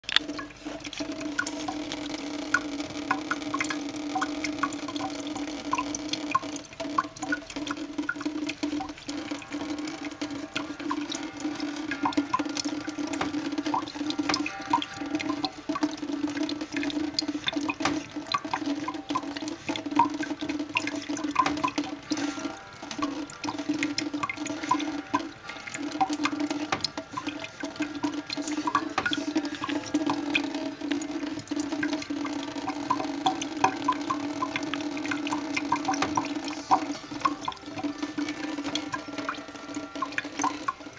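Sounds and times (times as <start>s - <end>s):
tap water trickling into sink: 0.1s - 40.9s
cat lapping water: 0.2s - 40.9s.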